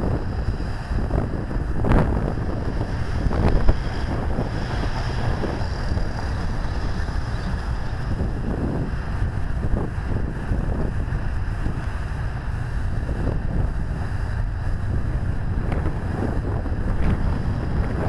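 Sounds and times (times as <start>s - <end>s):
car driving off on concrete: 0.0s - 11.0s, 13.2s - 18.0s
wind buffeting microphone: 0.0s - 18.0s.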